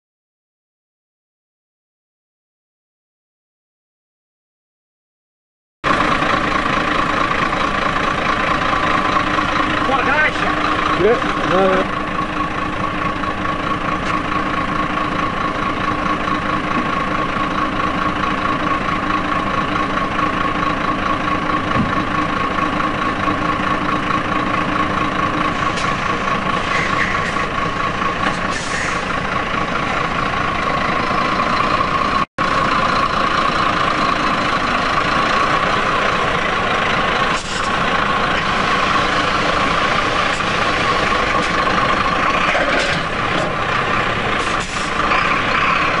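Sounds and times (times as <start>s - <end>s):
truck engine running: 5.8s - 46.0s.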